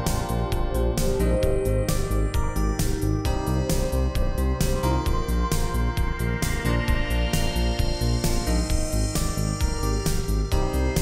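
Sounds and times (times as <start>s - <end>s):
music with bass and drums: 0.0s - 11.0s.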